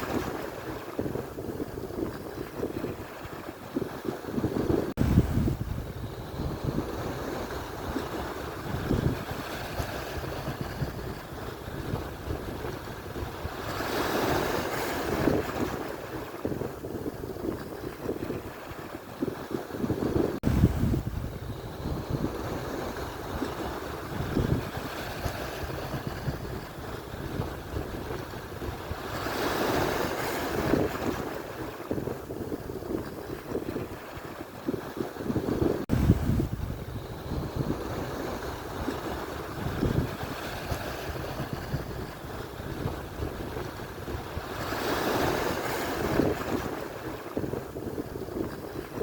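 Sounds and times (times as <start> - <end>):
waves breaking on shore: 0.0 - 49.0
wind buffeting microphone: 0.0 - 49.0.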